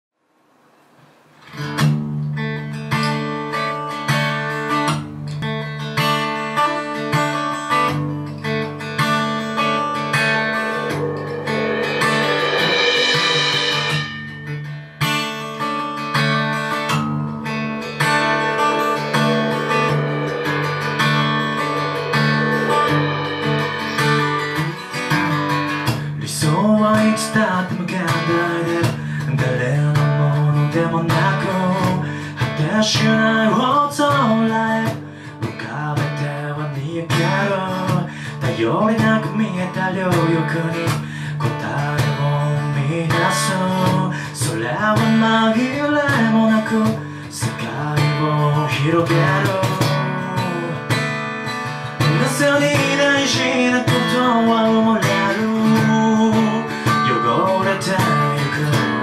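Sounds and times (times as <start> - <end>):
acoustic guitar picking: 0.8 - 59.0.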